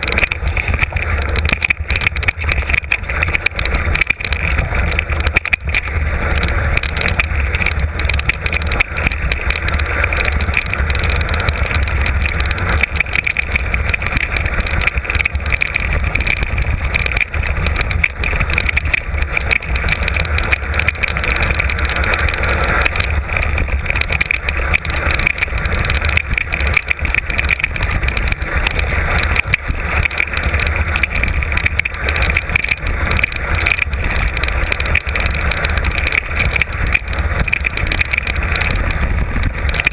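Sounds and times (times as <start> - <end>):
bike knocks and rattles: 0.0 - 39.9
wind on microphone: 0.0 - 39.9.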